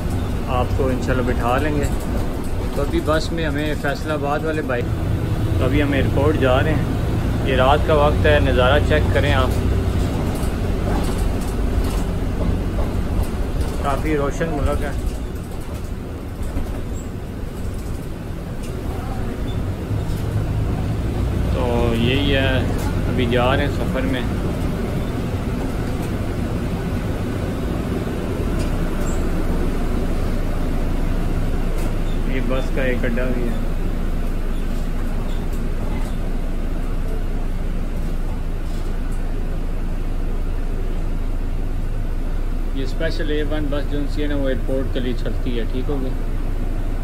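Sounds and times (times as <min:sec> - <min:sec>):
bus engine and road rumble: 0:00.0 - 0:47.0.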